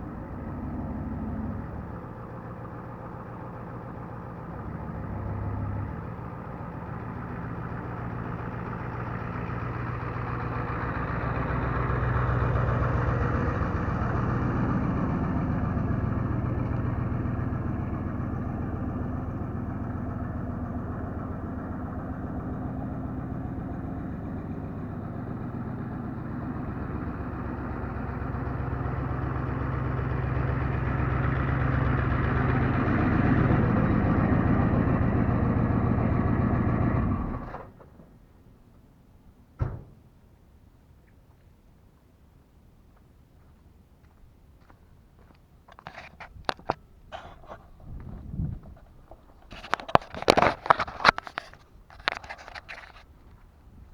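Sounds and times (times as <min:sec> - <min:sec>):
diesel engine idling with clatter: 0:00.0 - 0:53.9.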